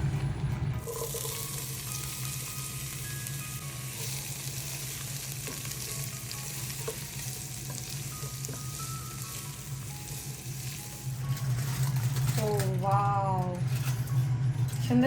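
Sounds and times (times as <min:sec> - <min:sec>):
food sizzling in hot oil: 0:00.8 - 0:14.2.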